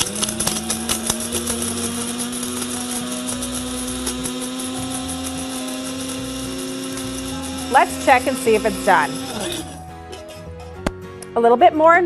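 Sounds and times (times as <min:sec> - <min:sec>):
cinnamon pieces rattling in bowl: 0:00.0 - 0:09.8
electric spice grinder whirring: 0:00.0 - 0:10.6.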